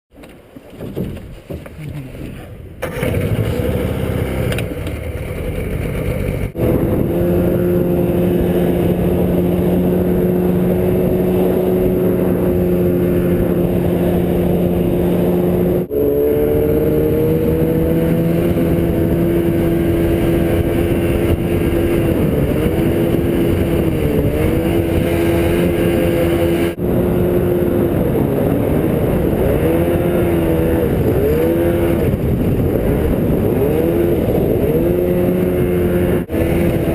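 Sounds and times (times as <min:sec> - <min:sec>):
outboard boat engine: 0:00.1 - 0:36.9.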